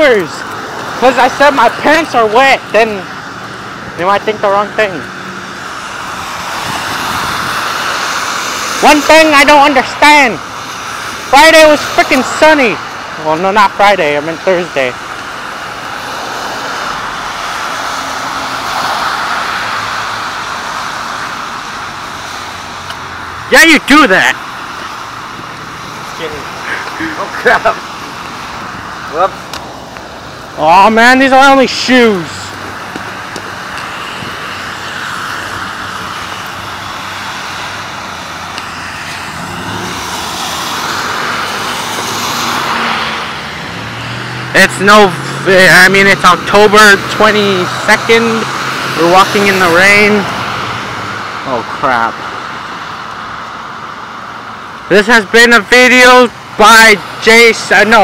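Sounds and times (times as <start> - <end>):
car tyres on wet road: 0.0 - 58.0
vehicle engine hum: 0.0 - 58.0.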